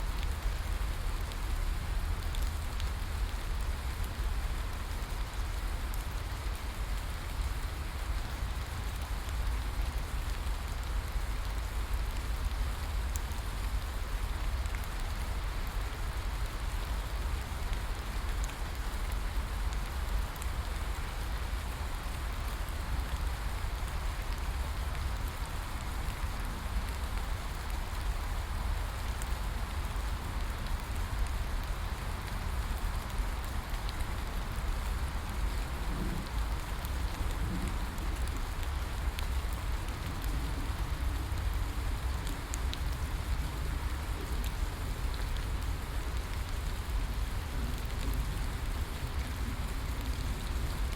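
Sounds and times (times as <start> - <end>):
steady rain in forest: 0.0 - 50.9.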